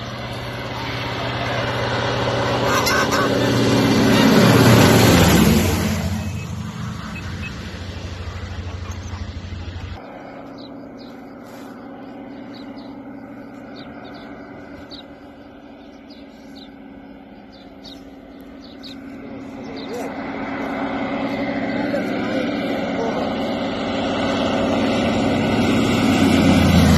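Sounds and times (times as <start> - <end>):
propeller plane engine droning: 0.0 - 26.9.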